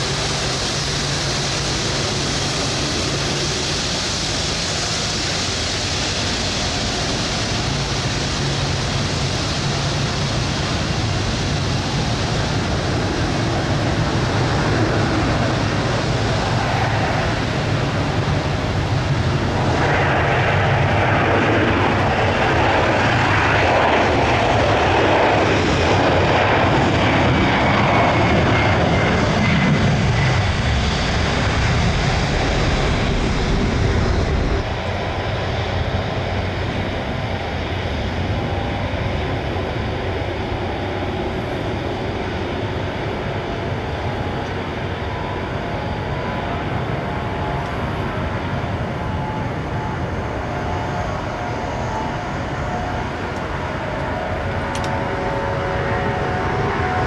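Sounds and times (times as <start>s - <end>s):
jet engines with high whine: 0.0s - 57.0s.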